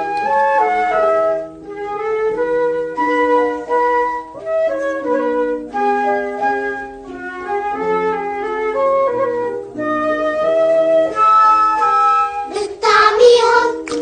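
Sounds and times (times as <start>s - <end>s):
flute-like woodwind melody: 0.0s - 13.7s
musical accompaniment: 0.0s - 14.0s.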